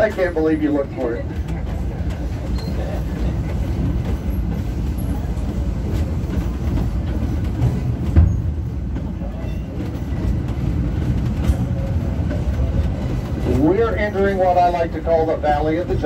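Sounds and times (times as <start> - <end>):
train car jolt: 0.0 - 15.8
rail clacks: 0.0 - 16.0
train car rumbling on track: 0.0 - 16.0.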